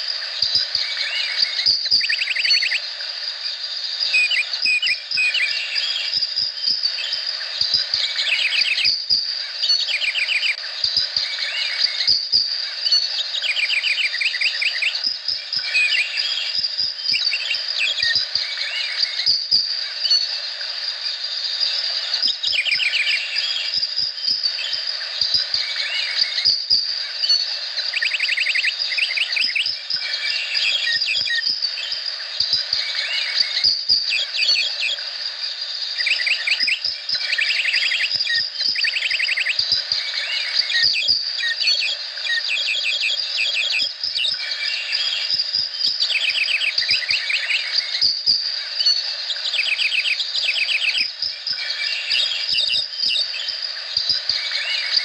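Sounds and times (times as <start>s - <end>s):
high-pitched insect drone: 0.0s - 55.0s
rapid chirping trills: 0.0s - 55.0s.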